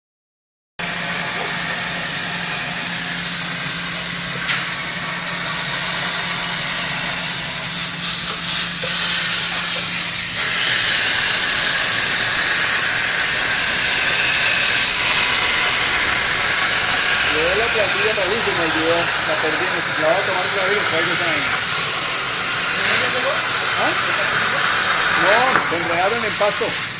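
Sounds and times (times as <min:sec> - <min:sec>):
plasma torch hissing: 0:00.8 - 0:26.9.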